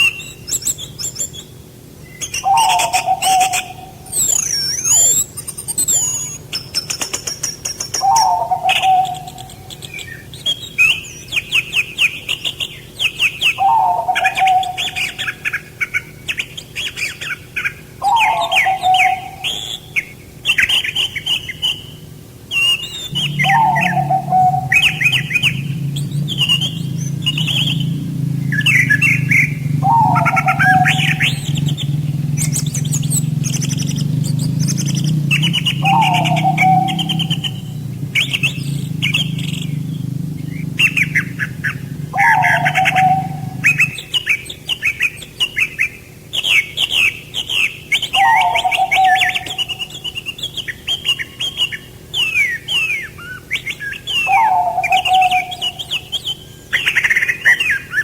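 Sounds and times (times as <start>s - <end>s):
low falling bird call: 0.0s - 58.0s
songbirds chirping and singing: 0.0s - 58.0s
steady low hum: 0.0s - 58.0s.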